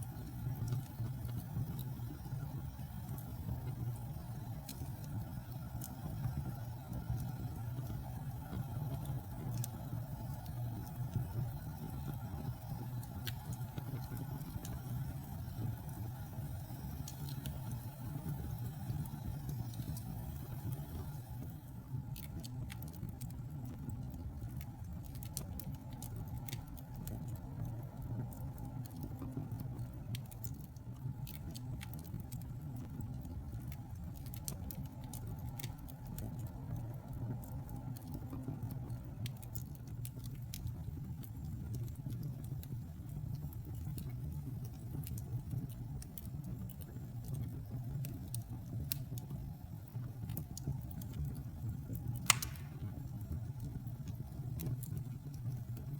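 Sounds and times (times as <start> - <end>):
low rumble of flames: 0.0 - 55.9
wood fire crackling: 0.0 - 55.9.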